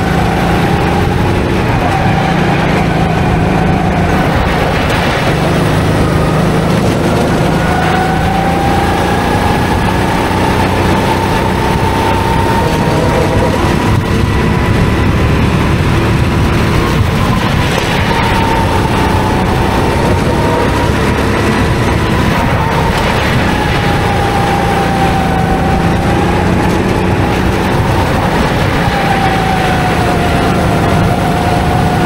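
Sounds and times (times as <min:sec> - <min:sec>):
go-kart engine drone: 0:00.0 - 0:32.0.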